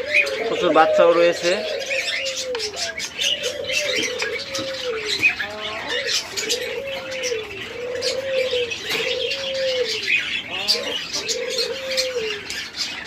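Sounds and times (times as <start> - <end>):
doves cooing: 0.0 - 13.0
small birds chirping: 0.0 - 13.0.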